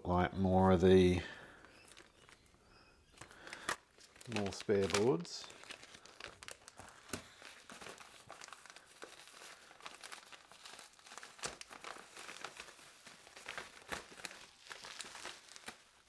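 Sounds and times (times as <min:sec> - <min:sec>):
bubble wrap crinkling: 0:01.0 - 0:16.0.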